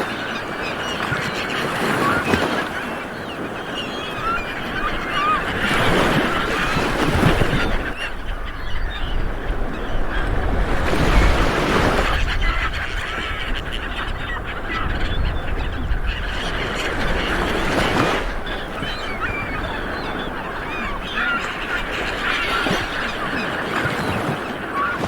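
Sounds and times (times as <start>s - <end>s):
birds calling: 0.0s - 25.0s
waves breaking on a beach: 0.0s - 25.0s.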